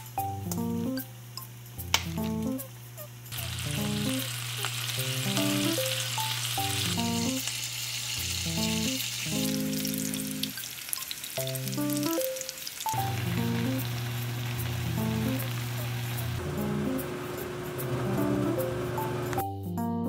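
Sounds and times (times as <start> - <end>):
light music: 0.0 - 10.6, 11.4 - 20.0
food sizzling in a pan: 1.5 - 19.3.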